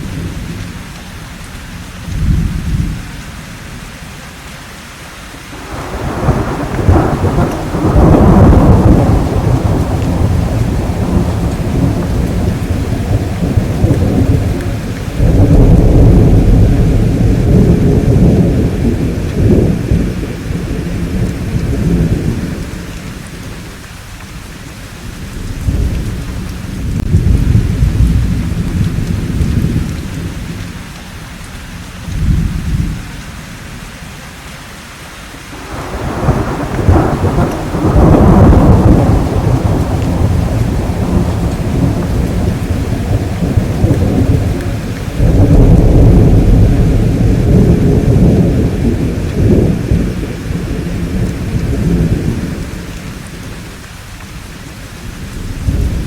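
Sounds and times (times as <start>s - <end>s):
steady rain: 0.0s - 56.0s
rolling thunder: 5.6s - 23.8s, 25.0s - 30.9s, 31.8s - 33.2s, 35.6s - 53.8s, 54.9s - 56.0s.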